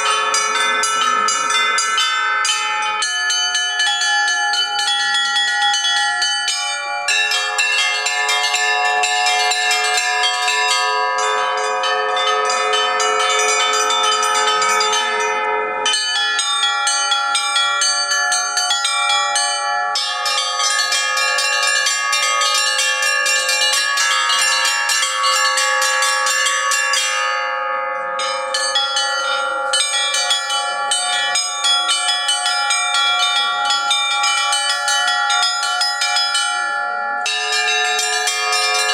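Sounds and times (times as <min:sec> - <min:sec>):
large low bells ringing: 0:00.0 - 0:38.9
small bells chiming: 0:00.0 - 0:38.9.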